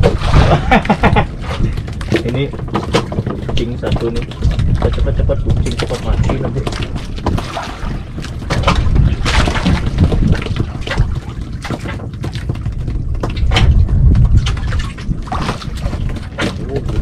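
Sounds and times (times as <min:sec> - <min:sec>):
short knocks and splashes: 0:00.0 - 0:17.0
steady low rumble: 0:00.0 - 0:17.0
water slapping against a boat hull: 0:00.0 - 0:17.0
wind buffeting the microphone: 0:00.0 - 0:17.0.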